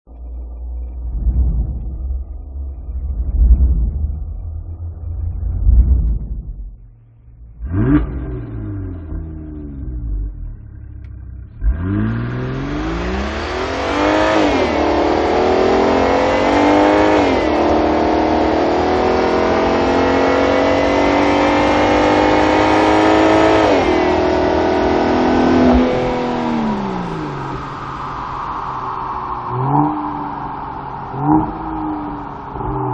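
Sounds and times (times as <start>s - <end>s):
car engine revving under full throttle: 0.8s - 32.9s.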